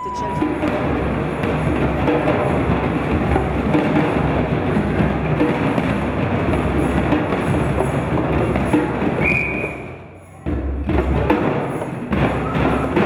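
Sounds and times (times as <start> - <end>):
children playing hand drums: 0.0 - 13.0.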